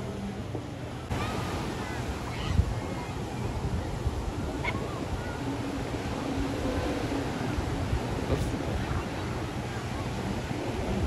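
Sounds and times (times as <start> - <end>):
surf: 0.0 - 11.0.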